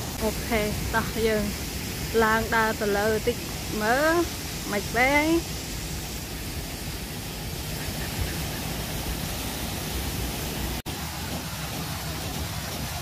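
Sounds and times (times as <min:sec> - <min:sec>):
waterfall rushing hiss: 0:00.0 - 0:13.0.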